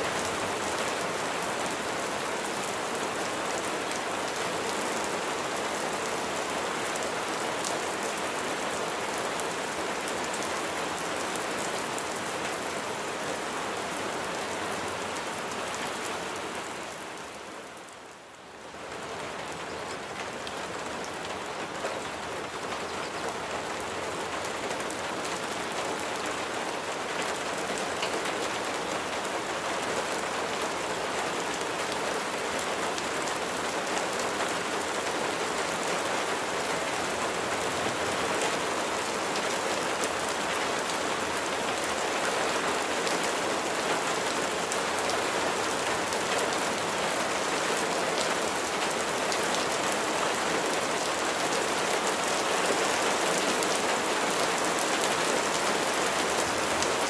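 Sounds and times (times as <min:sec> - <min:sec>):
dense rain pattering: 0:00.0 - 0:57.0.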